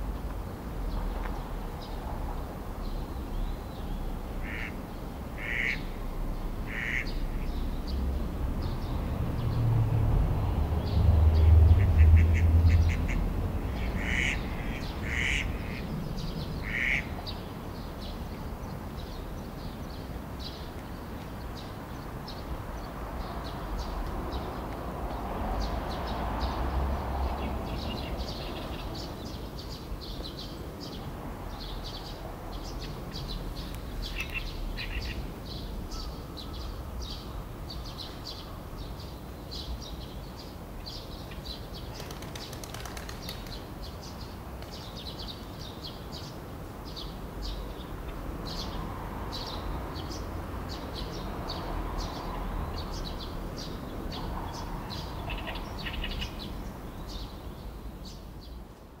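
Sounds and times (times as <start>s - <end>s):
sparrows chirping: 10.8s - 58.7s.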